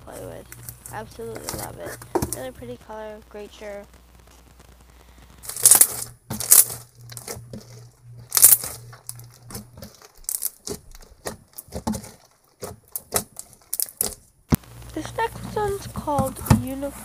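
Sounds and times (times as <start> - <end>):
foam slime crackling and popping: 0.0 - 17.0.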